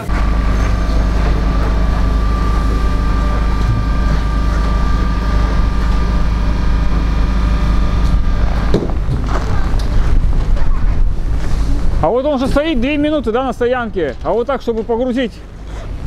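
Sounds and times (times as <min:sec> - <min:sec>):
electric train low rumble: 0:00.0 - 0:16.0
high whine: 0:00.0 - 0:16.0.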